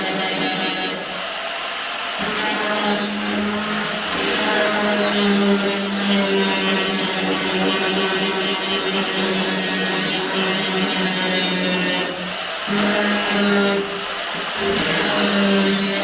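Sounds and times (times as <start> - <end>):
power tool whining on metal: 0.0 - 16.0.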